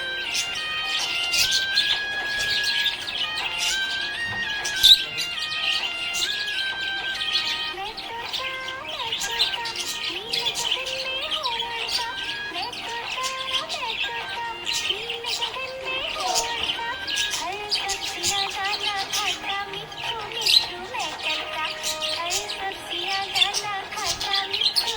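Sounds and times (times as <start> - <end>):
background music melody: 0.0 - 24.9
budgerigars chirping: 0.0 - 24.9.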